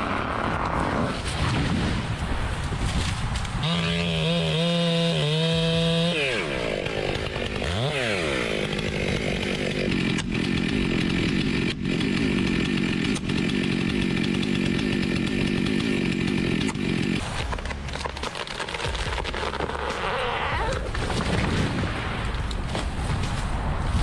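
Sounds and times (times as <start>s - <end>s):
chainsaw cutting wood: 3.4s - 23.5s.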